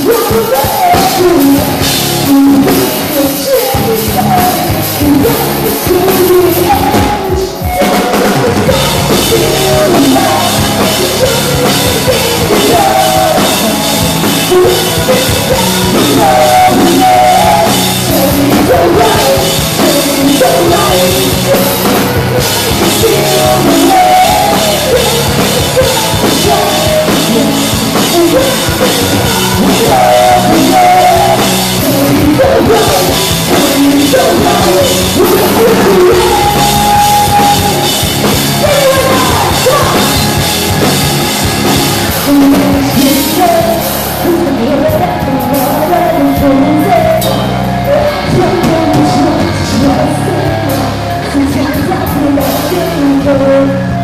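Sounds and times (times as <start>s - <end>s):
live rock band playing: 0.0s - 54.0s
woman singing lead: 0.0s - 54.0s.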